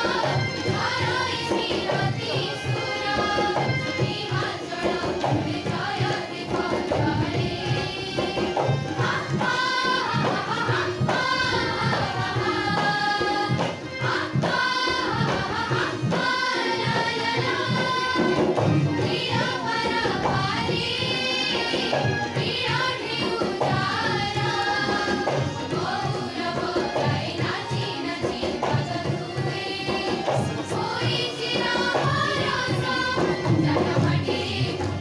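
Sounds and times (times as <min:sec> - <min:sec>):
group singing in chorus: 0:00.0 - 0:35.0
hand drum rhythm: 0:00.0 - 0:35.0.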